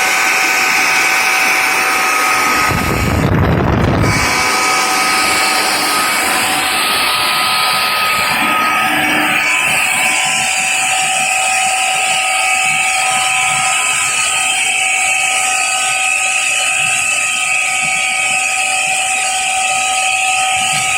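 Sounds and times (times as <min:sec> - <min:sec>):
air compressor whine and hiss: 0:00.0 - 0:20.9.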